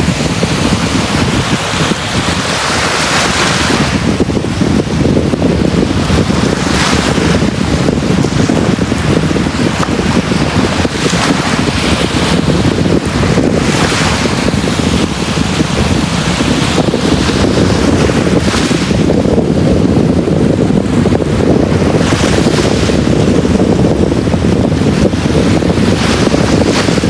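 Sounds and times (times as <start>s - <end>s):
surf breaking on beach: 0.0s - 27.0s.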